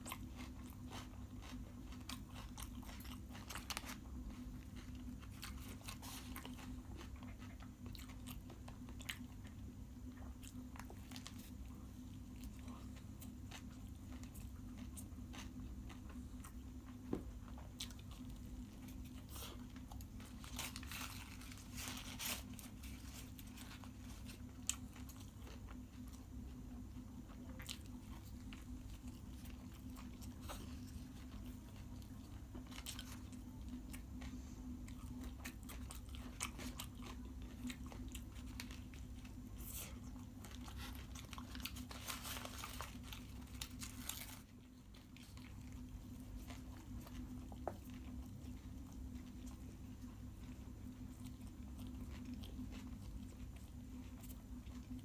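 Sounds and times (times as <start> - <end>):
biting and chewing food: 0.0 - 55.0.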